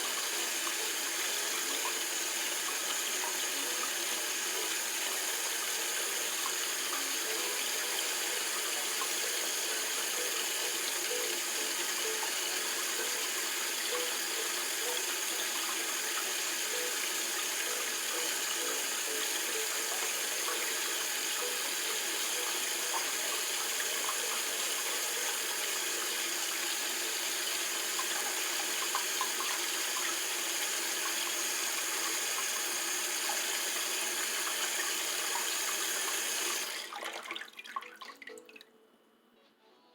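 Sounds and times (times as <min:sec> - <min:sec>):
water running: 0:00.0 - 0:38.7.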